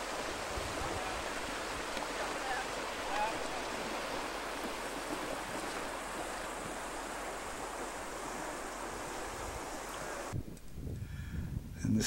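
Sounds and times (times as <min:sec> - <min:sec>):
whitewater rushing over boulders: 0:00.0 - 0:10.4.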